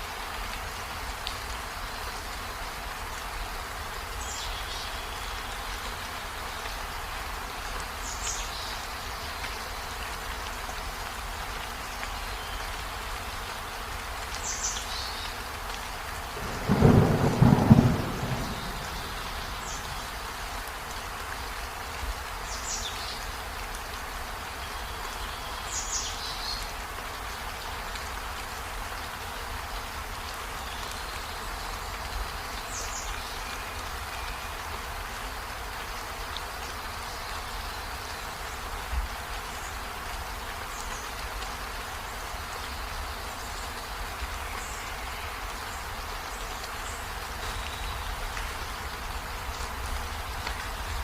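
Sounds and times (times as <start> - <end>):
steady outdoor hiss: 0.0 - 51.0.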